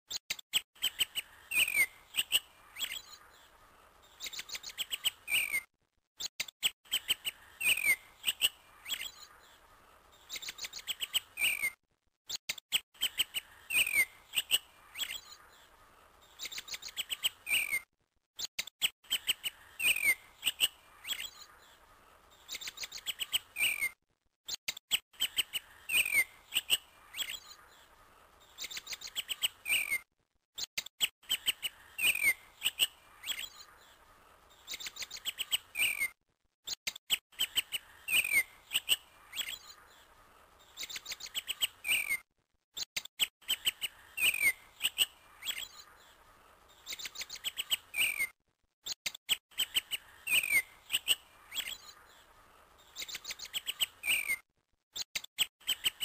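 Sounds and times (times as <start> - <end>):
small birds chirping and trilling: 0.1 - 56.0.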